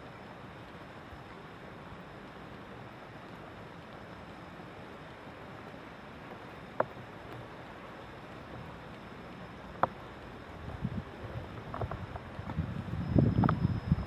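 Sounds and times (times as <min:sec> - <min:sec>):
rain: 0:00.0 - 0:14.0
wind: 0:00.0 - 0:14.0.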